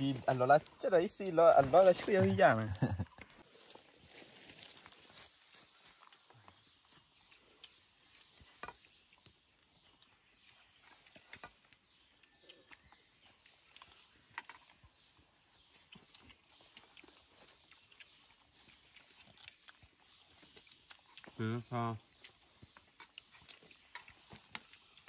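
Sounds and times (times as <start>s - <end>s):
clicks and rustles of eating: 0.0s - 21.4s, 22.0s - 25.0s.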